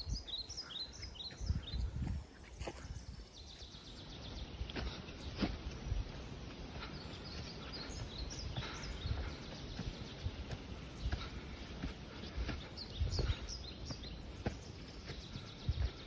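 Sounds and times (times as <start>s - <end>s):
bird chirps: 0.0s - 1.9s, 2.7s - 16.0s.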